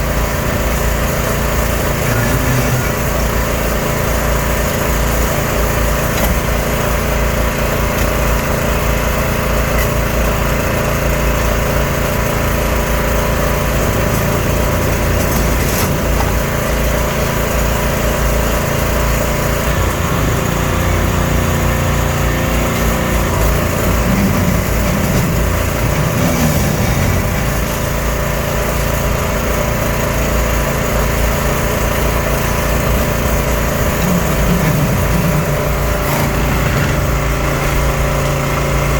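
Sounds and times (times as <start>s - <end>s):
excavator engine and hydraulics: 0.0s - 38.9s.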